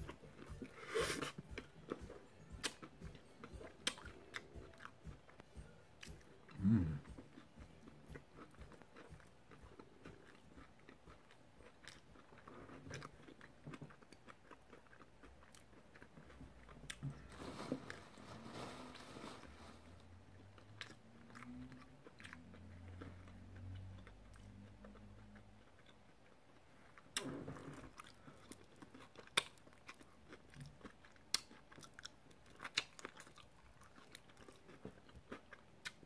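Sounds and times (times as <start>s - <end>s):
chewing and crunching: 0.0s - 17.3s, 20.4s - 36.0s.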